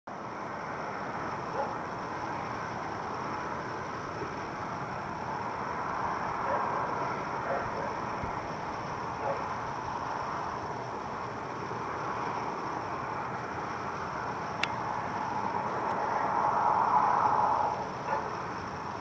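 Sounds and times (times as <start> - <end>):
distant traffic rushing: 0.1 - 19.0.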